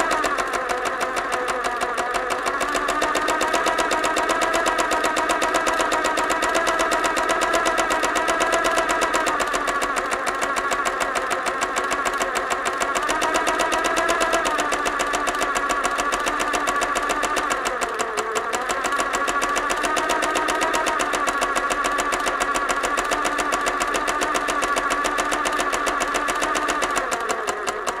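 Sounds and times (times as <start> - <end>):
sewing machine clattering: 0.0 - 28.0.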